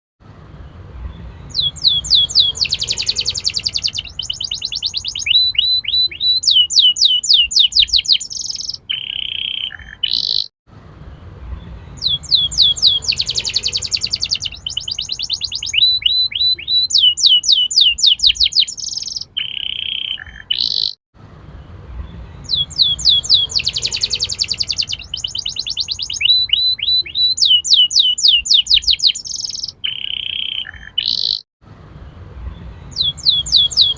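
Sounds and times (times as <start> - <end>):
canary singing trills: 1.0 - 10.5, 11.6 - 21.0, 22.0 - 31.5, 32.5 - 33.9.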